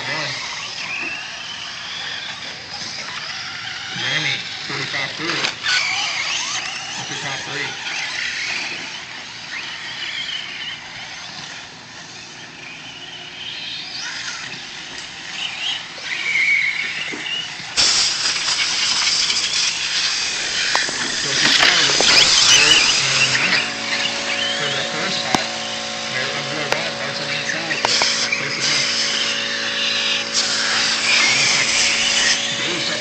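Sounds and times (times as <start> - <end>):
rc car motors whining: 0.0 - 33.0.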